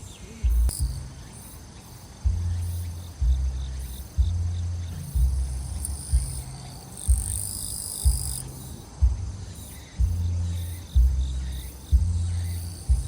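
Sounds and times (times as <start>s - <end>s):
crickets chirring: 0.0s - 13.0s
distant music bass beat: 0.0s - 13.0s.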